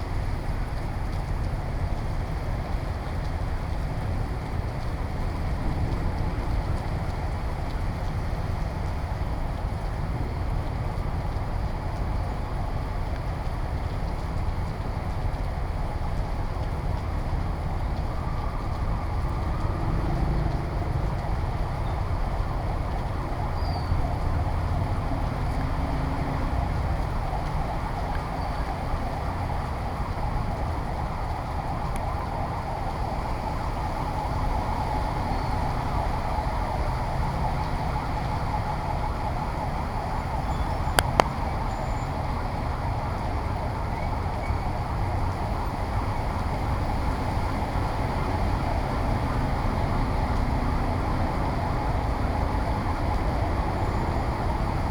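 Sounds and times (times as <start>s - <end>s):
heavy rain: 0.0s - 54.9s
traffic: 0.0s - 54.9s
wind rumble on microphone: 0.0s - 54.9s.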